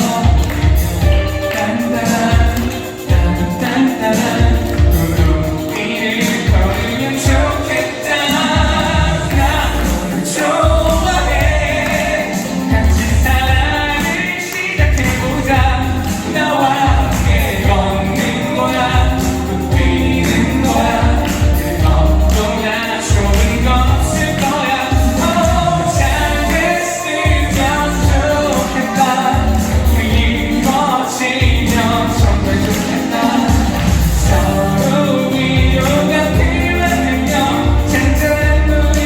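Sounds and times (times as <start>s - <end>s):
band accompaniment with steady beat: 0.0s - 39.0s
man singing pop song: 0.0s - 39.0s.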